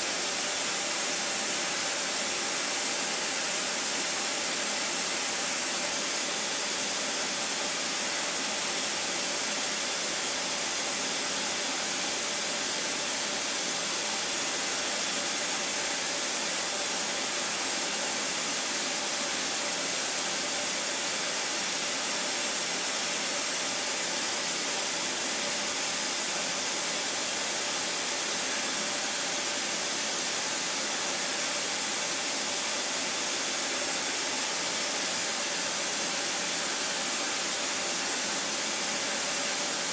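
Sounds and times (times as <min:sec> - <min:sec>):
milling machine steady hiss: 0:00.0 - 0:39.9.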